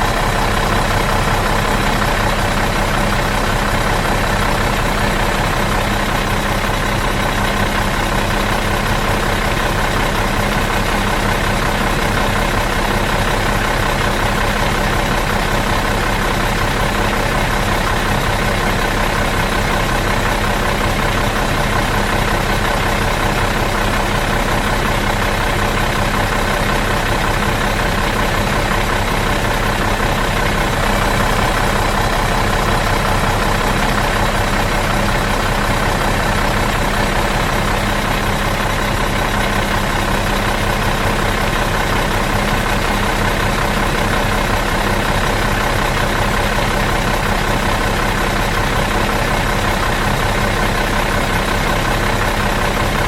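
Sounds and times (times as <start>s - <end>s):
bus engine idling: 0.0s - 53.0s.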